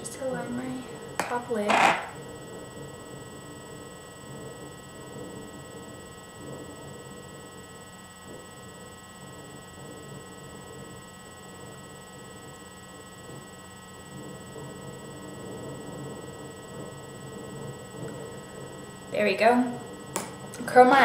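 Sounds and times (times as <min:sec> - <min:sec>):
high-pitched electronic whines: 0:00.0 - 0:21.0
room hum and hiss: 0:00.0 - 0:21.0.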